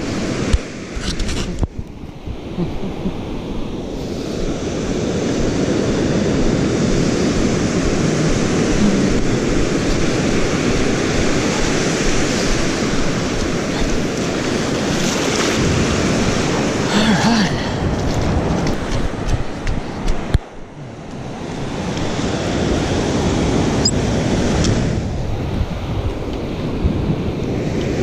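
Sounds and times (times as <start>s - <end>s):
ocean surf washing up beach: 0.0s - 28.0s
wind on microphone: 0.0s - 28.0s.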